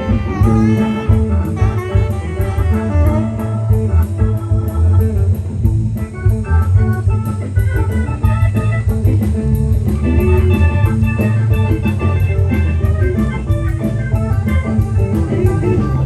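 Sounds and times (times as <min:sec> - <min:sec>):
blues-rock band playing: 0:00.0 - 0:16.0.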